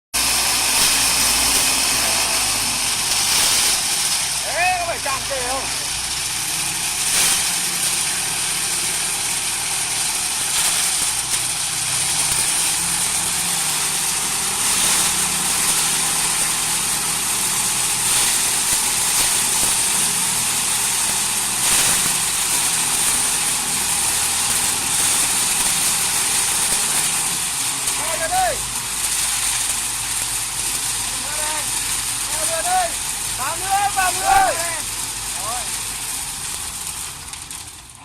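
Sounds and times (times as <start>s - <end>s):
constant high hiss: 0.2s - 38.0s
diesel engine humming: 0.2s - 38.0s.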